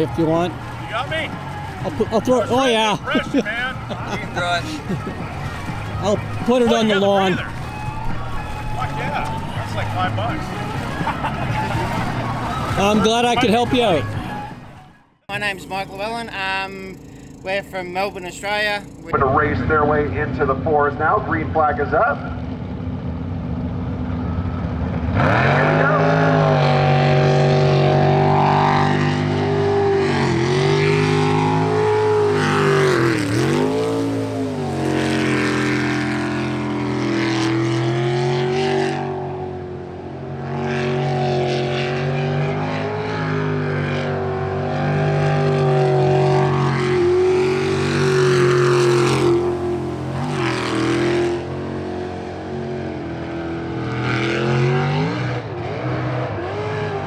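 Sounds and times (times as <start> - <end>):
boat engine at full throttle: 0.0 - 57.0.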